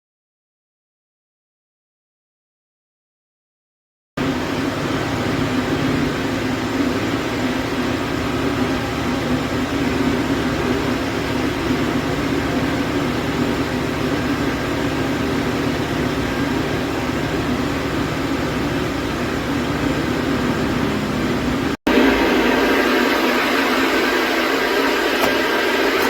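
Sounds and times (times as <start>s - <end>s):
small motorcycle engine idling: 4.2s - 26.0s.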